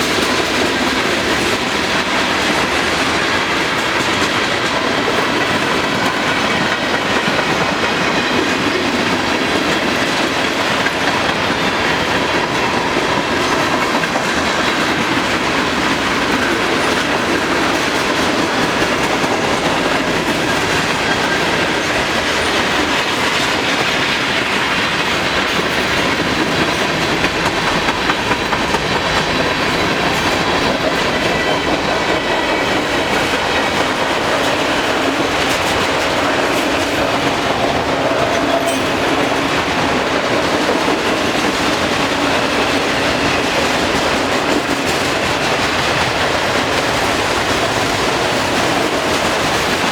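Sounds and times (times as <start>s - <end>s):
high ringing from wheels on rail: 0.0s - 49.9s
train rumble: 0.0s - 49.9s
train wheels clicking over rail joints: 0.0s - 49.9s.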